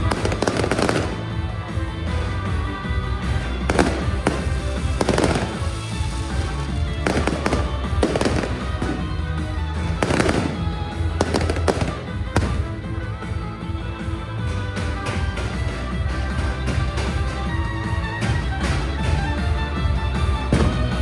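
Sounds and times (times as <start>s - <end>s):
firework shells bursting: 0.0s - 21.0s
music: 0.0s - 21.0s.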